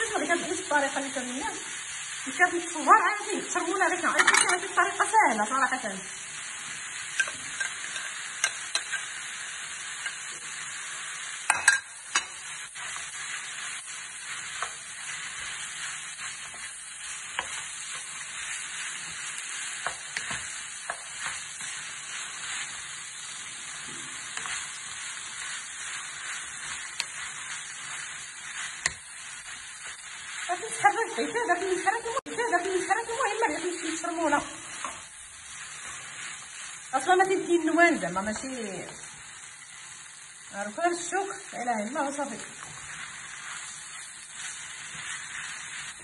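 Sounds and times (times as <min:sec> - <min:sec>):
fish sizzling in a pan: 0:00.0 - 0:46.0.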